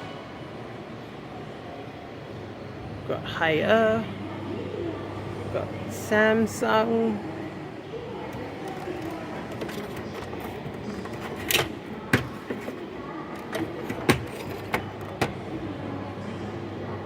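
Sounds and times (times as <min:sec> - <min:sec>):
shop background hum: 0:00.0 - 0:17.0.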